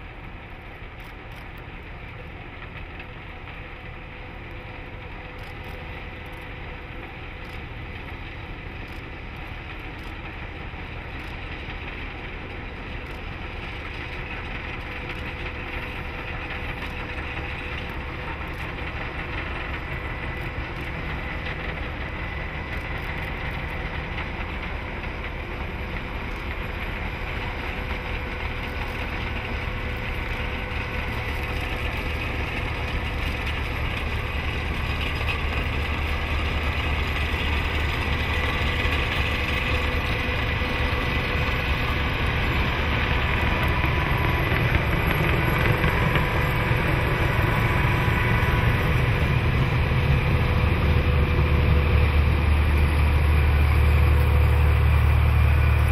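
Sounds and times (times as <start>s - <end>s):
diesel locomotive engines: 0.0s - 55.9s
rotary snow blower whining: 4.7s - 55.9s.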